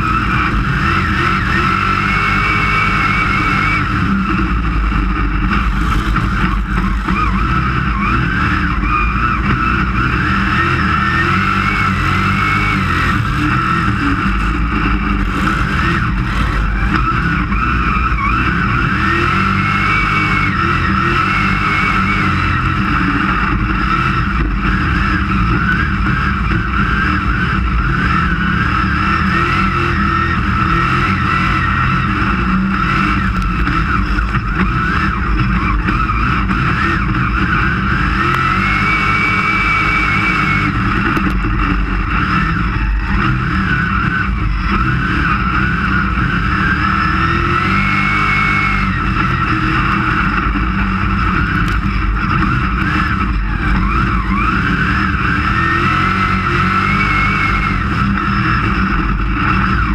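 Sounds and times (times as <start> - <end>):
race car engine drone: 0.0 - 59.9.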